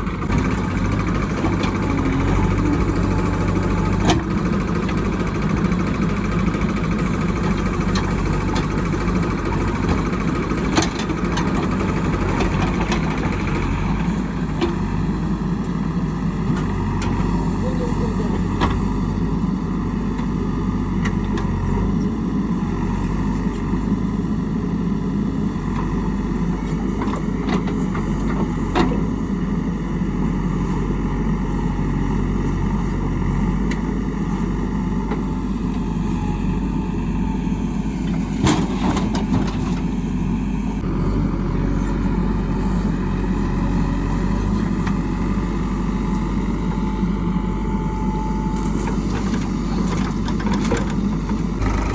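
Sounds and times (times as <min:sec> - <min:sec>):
diesel machinery engine running: 0:00.0 - 0:51.9.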